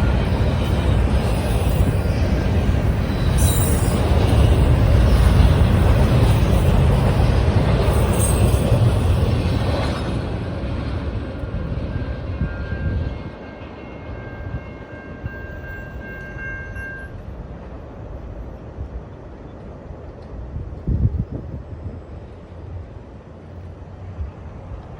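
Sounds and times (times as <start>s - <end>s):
freight train rolling past: 0.0s - 24.9s.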